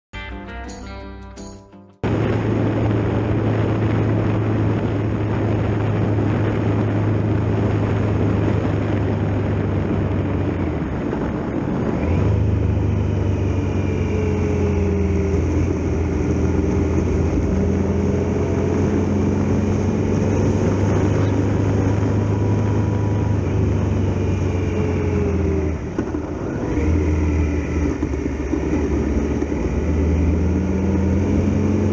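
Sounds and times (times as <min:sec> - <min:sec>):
motorcycle engine running: 0:01.4 - 0:31.9
wind and road noise: 0:02.0 - 0:31.9.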